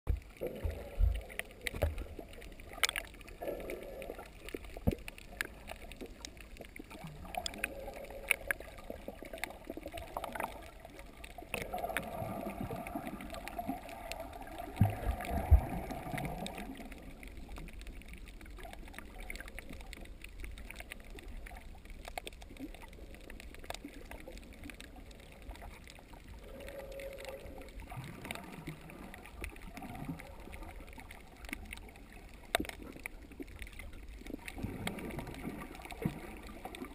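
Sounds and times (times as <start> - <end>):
underwater gurgling and sloshing: 0.1 - 36.9
small clicks: 1.1 - 36.9.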